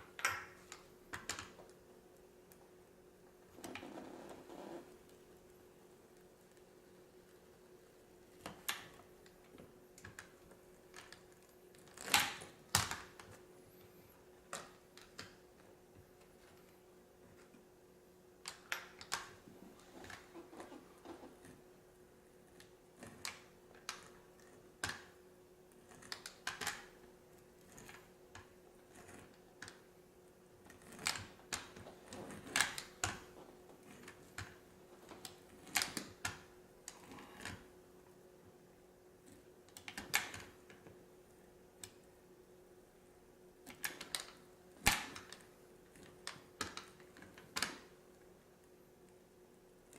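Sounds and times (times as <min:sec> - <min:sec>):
faint steady hum: 0:00.0 - 0:49.9.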